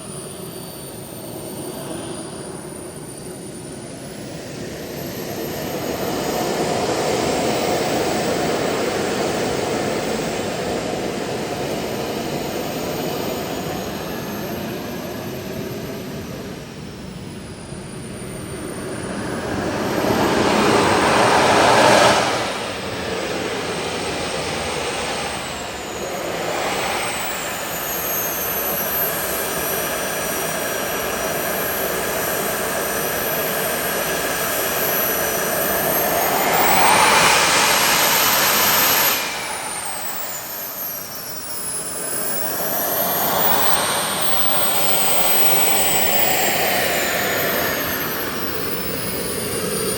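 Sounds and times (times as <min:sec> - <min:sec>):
model jet engines whining: 0:00.0 - 0:49.9.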